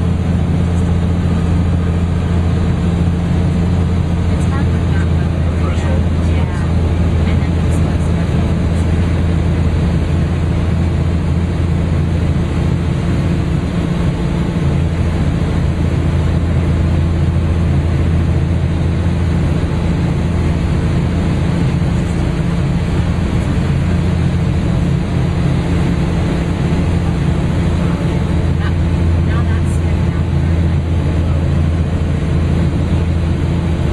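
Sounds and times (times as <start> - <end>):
aircraft engine and propeller droning: 0.0 - 33.9
rush of airflow: 0.0 - 33.9.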